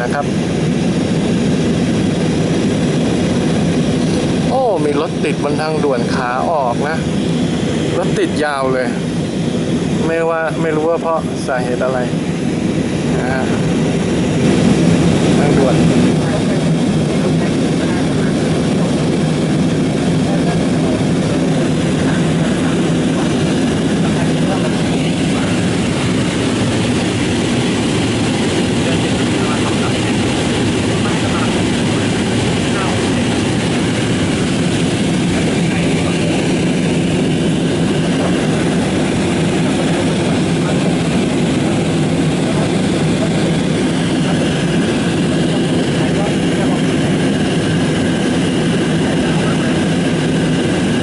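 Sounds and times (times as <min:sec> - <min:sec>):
airliner cabin engine rumble: 0:00.0 - 0:51.0.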